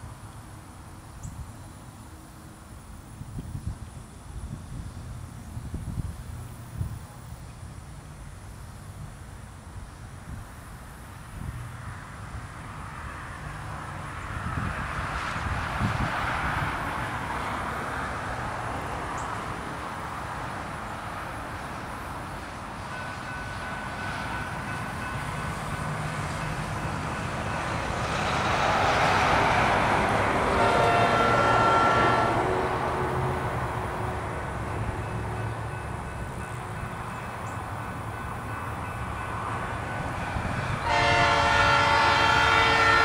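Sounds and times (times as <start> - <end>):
diesel locomotive engines droning: 0.0 - 43.0.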